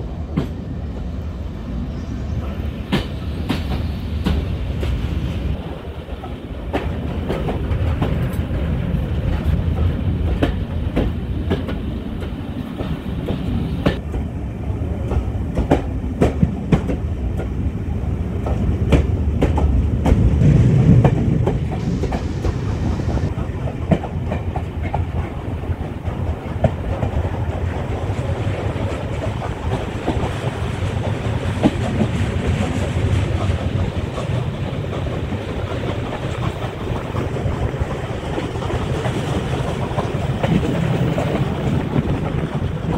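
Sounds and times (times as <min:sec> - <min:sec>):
clickety-clack over rail joints: 0:00.0 - 0:01.2, 0:02.3 - 0:42.9
train wheels rumbling on rail: 0:00.0 - 0:42.9.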